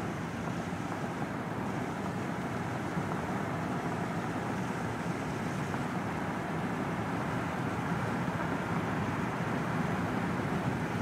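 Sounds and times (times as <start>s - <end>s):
car road noise drone: 0.0s - 11.0s.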